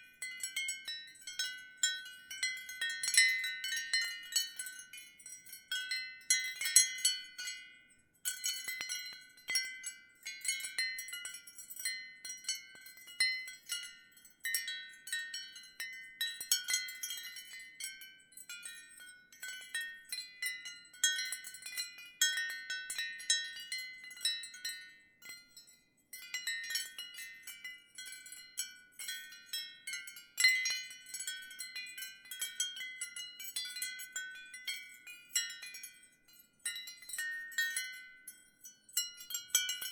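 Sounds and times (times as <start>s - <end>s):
ceramic wind chimes jingling: 0.0s - 39.9s.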